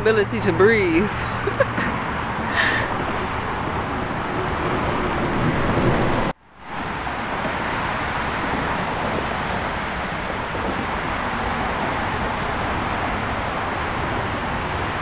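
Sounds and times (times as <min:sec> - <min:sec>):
highway traffic roar: 0:00.0 - 0:15.0.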